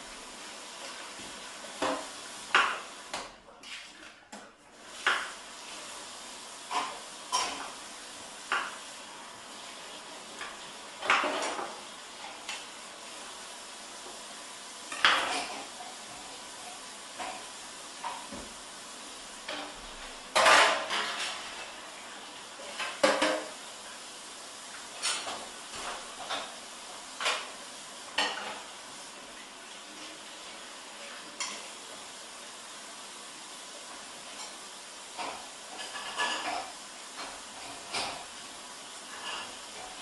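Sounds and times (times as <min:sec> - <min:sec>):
steady background hiss: 0:00.0 - 0:03.6, 0:04.3 - 0:40.0.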